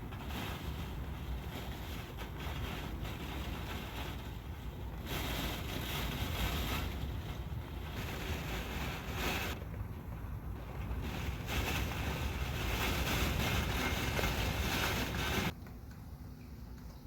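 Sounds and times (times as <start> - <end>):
strong wind gusting: 0.0 - 15.5.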